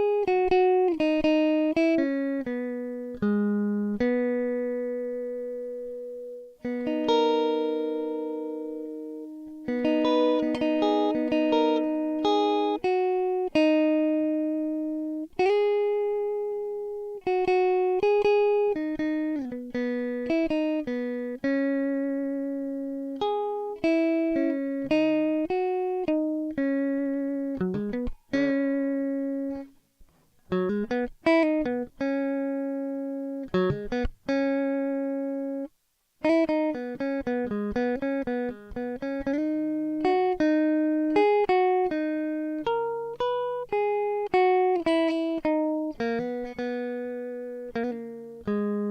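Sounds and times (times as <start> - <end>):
solo guitar music: 0.0 - 48.9.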